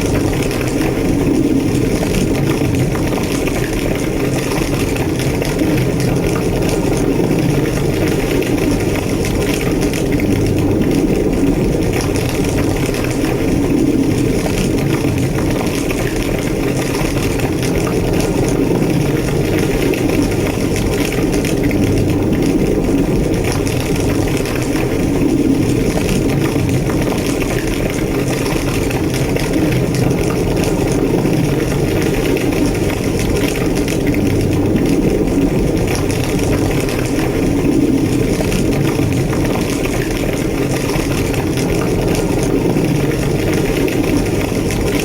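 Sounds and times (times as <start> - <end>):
large fire roaring and crackling: 0.0 - 45.0.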